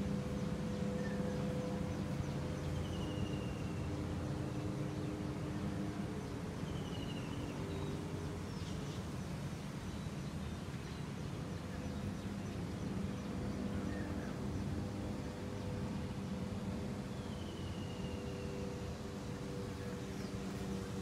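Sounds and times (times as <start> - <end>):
distant city traffic hum: 0.0 - 21.0
faint bird chirps and trills: 0.0 - 21.0
faint steady tones: 0.0 - 21.0.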